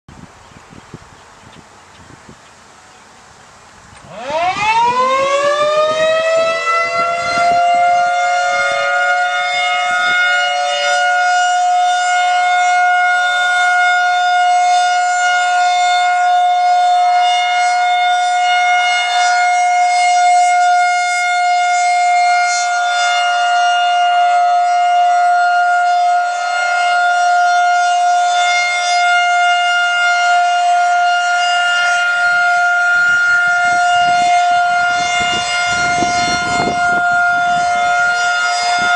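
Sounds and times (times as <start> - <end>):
outdoor warning siren: 3.1 - 38.9.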